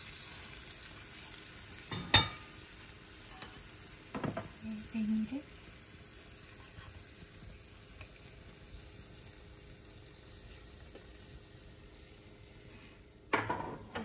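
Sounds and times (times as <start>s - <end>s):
rice sizzling in a pot: 0.0s - 14.0s.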